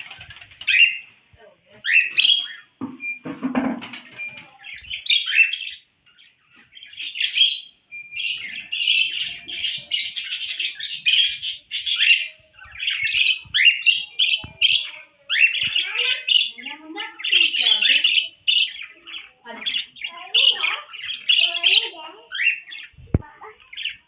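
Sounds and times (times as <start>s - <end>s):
parrots chirping and chattering: 0.0s - 24.0s.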